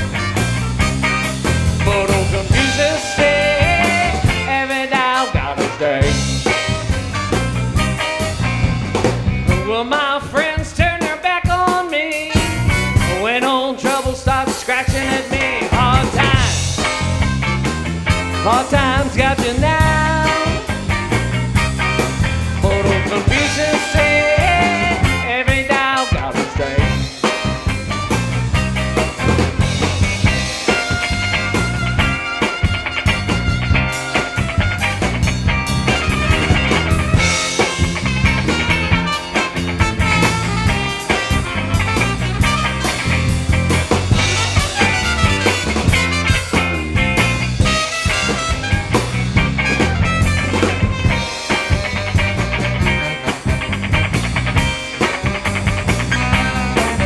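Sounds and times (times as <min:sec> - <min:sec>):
band playing instrumental: 0:00.0 - 0:57.0
bass line: 0:00.0 - 0:57.0
drum kit: 0:00.0 - 0:57.0
guitar: 0:00.0 - 0:57.0.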